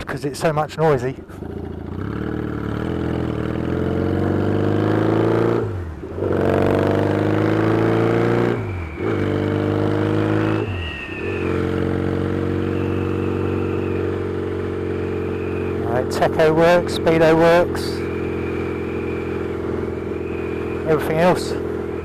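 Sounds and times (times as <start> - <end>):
motorcycle engine accelerating: 0.6 - 22.0.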